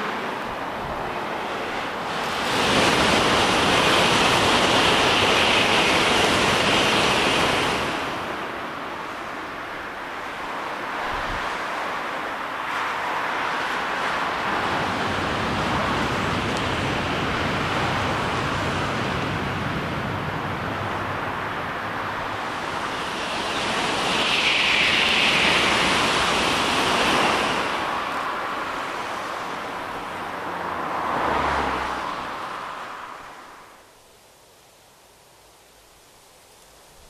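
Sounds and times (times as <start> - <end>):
high-speed trains passing: 0.0 - 34.0.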